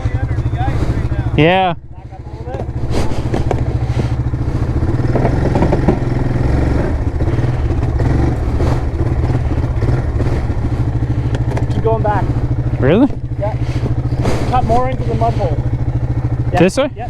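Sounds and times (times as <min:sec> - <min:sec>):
atv engine running at low revs: 0:00.0 - 0:17.0
short clunks: 0:02.5 - 0:16.4.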